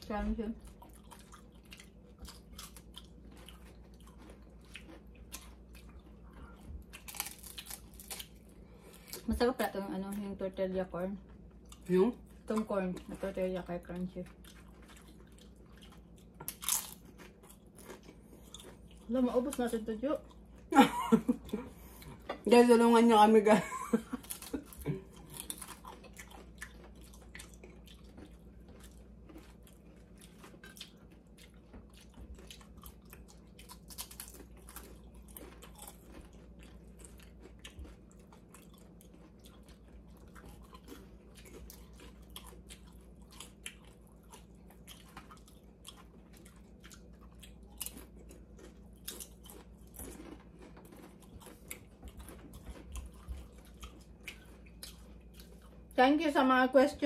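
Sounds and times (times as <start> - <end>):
chewing crunchy chips: 0.0 - 23.1, 23.9 - 56.0.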